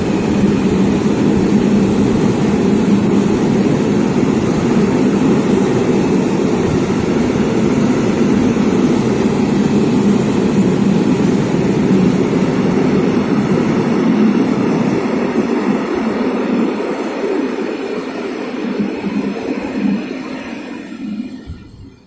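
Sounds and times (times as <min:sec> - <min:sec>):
electric locomotives deep drone: 0:00.0 - 0:22.0.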